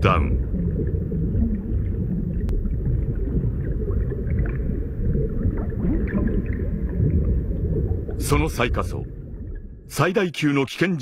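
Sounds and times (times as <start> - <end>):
low underwater rumble: 0.0 - 10.0
faint bubbling gurgles: 0.0 - 10.2.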